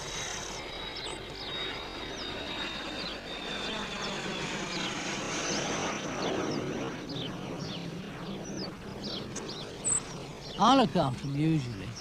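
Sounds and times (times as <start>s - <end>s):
small birds chirping: 0.0s - 12.0s
steady rushing background noise: 0.0s - 12.0s.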